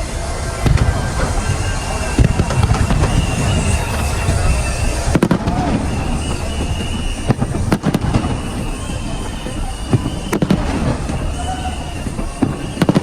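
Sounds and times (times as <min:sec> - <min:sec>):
firework shells bursting with bangs: 0:00.0 - 0:13.0
low rumble and crackle of fireworks: 0:00.0 - 0:13.0.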